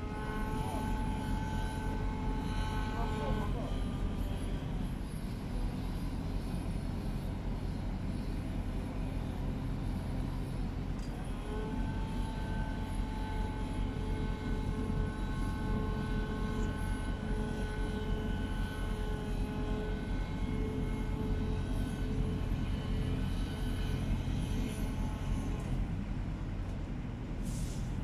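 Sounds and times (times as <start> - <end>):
steady whine: 0.0 - 26.8.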